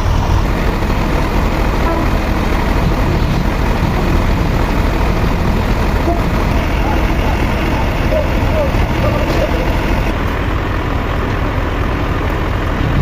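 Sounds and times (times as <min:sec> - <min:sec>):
heavy machinery droning: 0:00.0 - 0:13.0.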